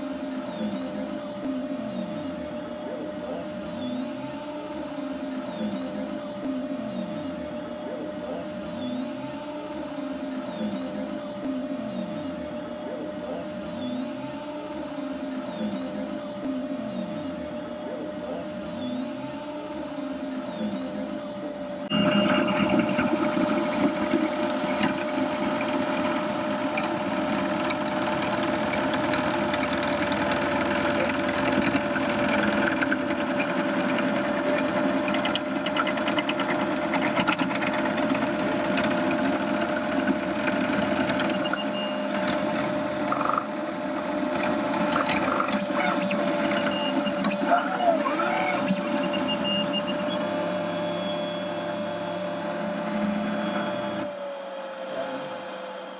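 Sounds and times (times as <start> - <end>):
printer stepper motors whirring: 0.0 - 55.9
steady whine: 0.0 - 55.9.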